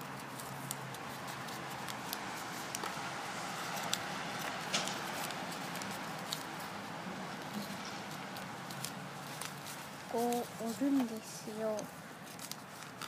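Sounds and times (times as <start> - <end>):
paper rustling and crinkling: 0.0 - 13.0
sharp paper crackles: 0.0 - 13.0.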